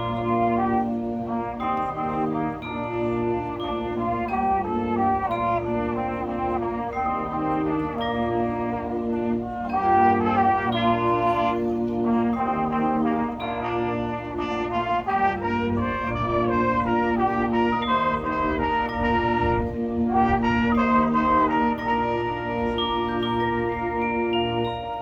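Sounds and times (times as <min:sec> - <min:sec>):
marching band playing: 0:00.0 - 0:25.0.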